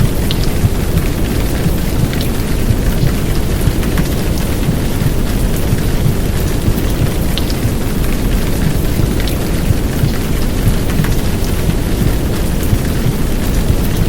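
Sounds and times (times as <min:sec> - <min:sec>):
faint drip ticks: 0:00.0 - 0:14.0
heavy rain downpour: 0:00.0 - 0:14.0.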